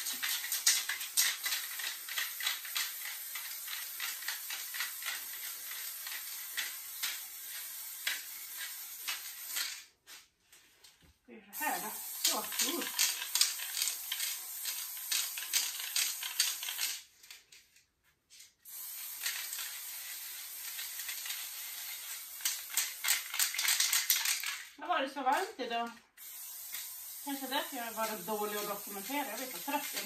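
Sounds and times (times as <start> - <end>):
spray paint can hissing: 0.0 - 9.9, 11.6 - 17.1, 18.6 - 24.7, 26.1 - 30.0.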